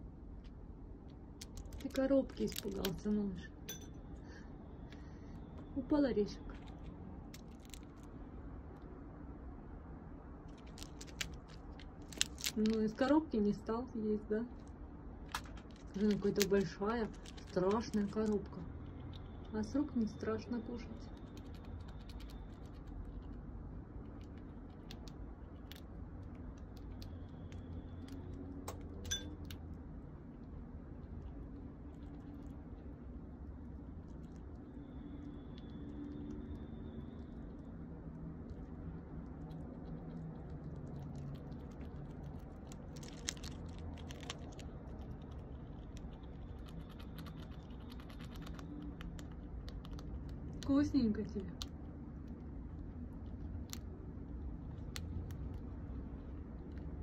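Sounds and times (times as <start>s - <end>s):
squirrel gnawing nuts: 0.0s - 57.0s.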